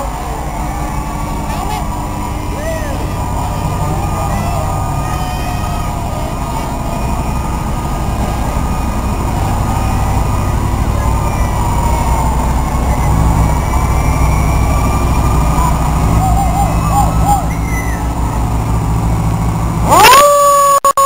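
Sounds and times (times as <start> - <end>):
faint siren: 0.0 - 18.6
fire truck engine rumble: 0.0 - 20.8.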